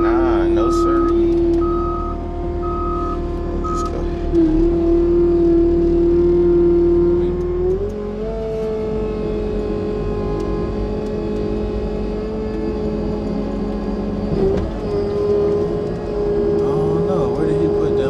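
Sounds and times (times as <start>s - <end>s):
loader engine whining: 0.0s - 18.0s.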